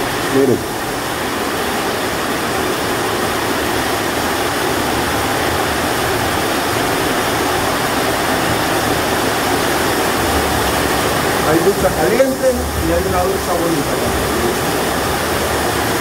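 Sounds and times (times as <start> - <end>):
heavy rain on a metal roof: 0.0 - 16.0.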